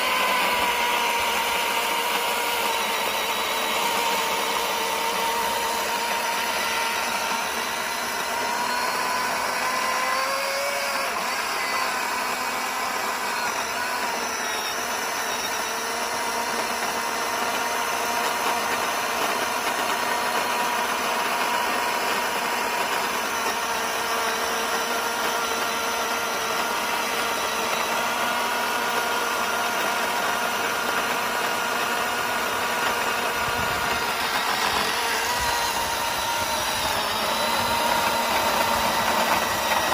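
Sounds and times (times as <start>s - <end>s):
cordless chainsaw whining: 0.0s - 39.9s.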